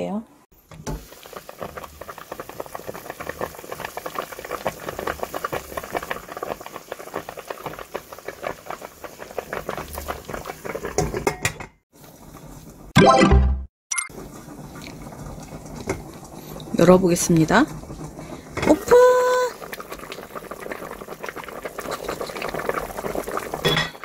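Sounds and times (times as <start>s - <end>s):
stew bubbling in a pot: 0.6s - 12.9s, 14.1s - 24.0s.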